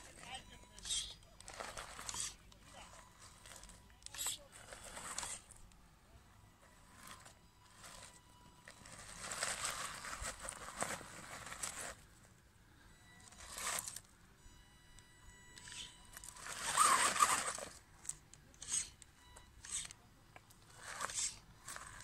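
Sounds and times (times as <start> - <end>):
toy car tyres crunching over dirt: 0.0 - 5.9, 6.5 - 12.4, 13.2 - 14.2, 15.5 - 22.0.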